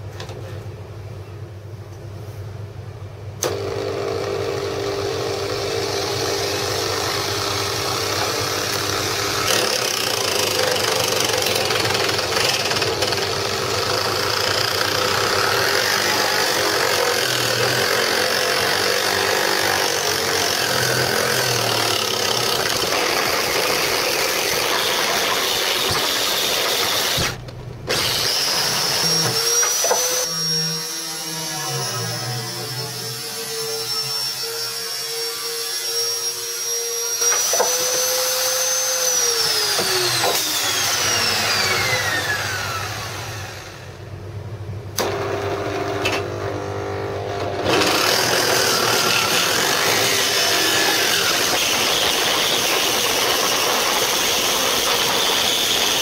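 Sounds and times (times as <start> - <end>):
angle grinder whining: 3.4 - 44.1, 45.0 - 56.0.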